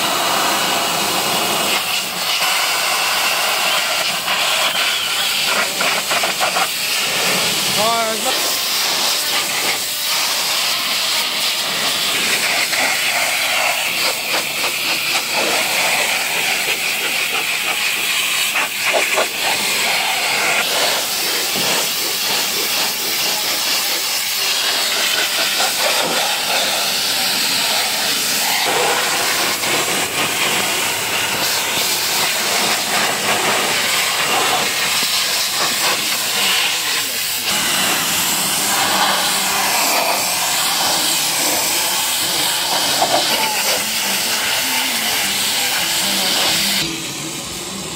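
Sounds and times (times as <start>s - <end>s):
pressure washer spraying car: 0.0s - 47.9s.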